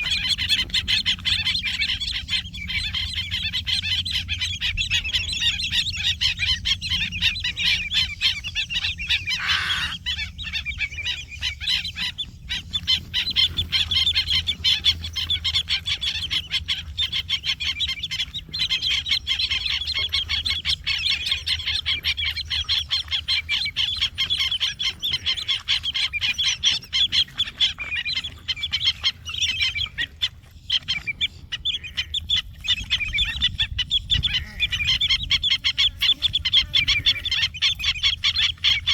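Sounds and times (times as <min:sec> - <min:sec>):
wading birds squawking: 0:00.0 - 0:38.9.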